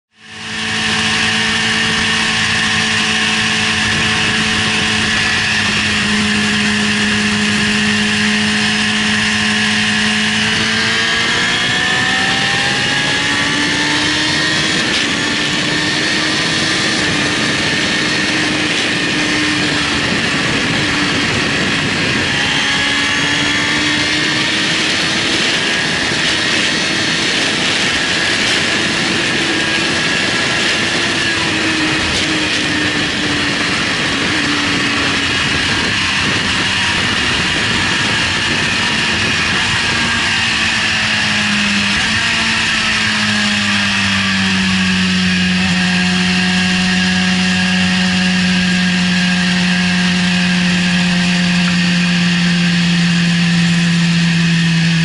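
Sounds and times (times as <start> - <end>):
heavy wind rush: 0.1 - 55.0
motorcycle engine at high revs: 0.1 - 55.0.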